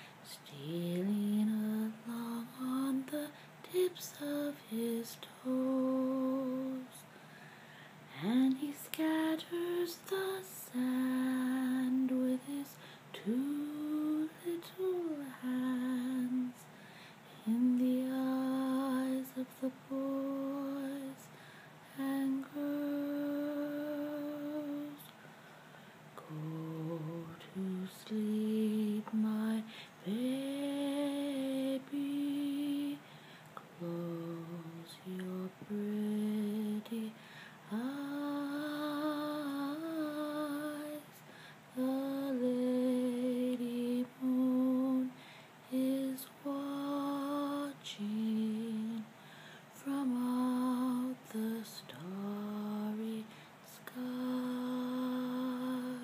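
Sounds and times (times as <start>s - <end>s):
person humming a lullaby: 0.0s - 7.0s, 8.1s - 16.7s, 17.4s - 25.2s, 26.2s - 33.0s, 33.6s - 41.2s, 41.8s - 49.1s, 49.8s - 56.0s.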